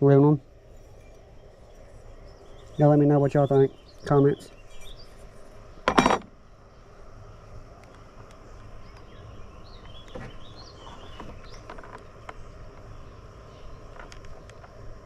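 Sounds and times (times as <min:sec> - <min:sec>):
faint bird chirps: 0:00.0 - 0:05.8, 0:07.9 - 0:14.6
low outdoor rumble: 0:00.0 - 0:15.0.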